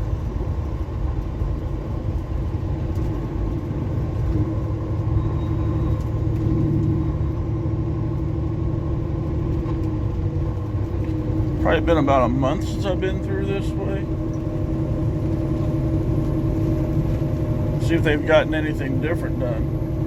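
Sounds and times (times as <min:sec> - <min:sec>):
road and tire noise: 0:00.0 - 0:20.0
truck engine droning: 0:00.0 - 0:20.0.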